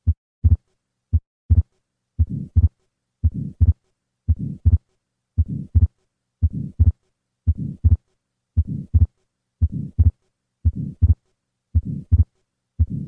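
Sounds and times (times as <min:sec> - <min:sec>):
heartbeat sounds: 0:00.0 - 0:04.8, 0:05.4 - 0:08.0, 0:08.6 - 0:11.2, 0:11.8 - 0:13.0
soft heart murmur: 0:00.0 - 0:04.8, 0:05.4 - 0:08.0, 0:08.6 - 0:11.2, 0:11.8 - 0:13.0.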